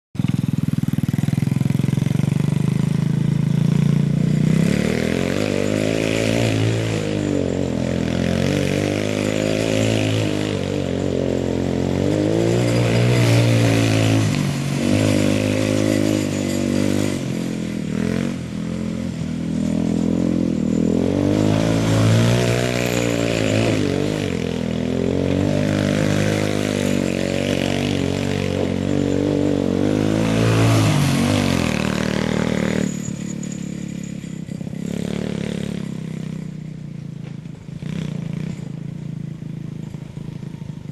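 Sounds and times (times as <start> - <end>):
buggy engine revving: 0.2 - 40.9.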